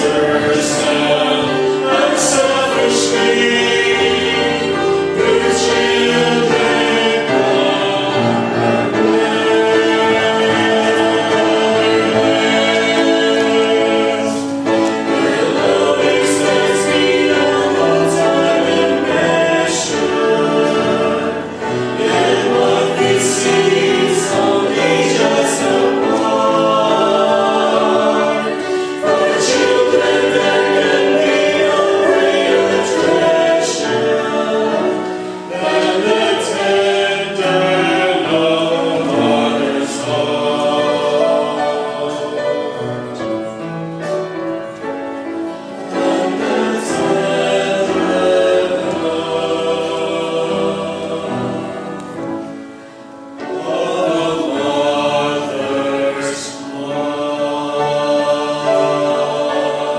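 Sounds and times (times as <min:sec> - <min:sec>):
vocal ensemble singing in harmony: 0:00.0 - 0:59.9.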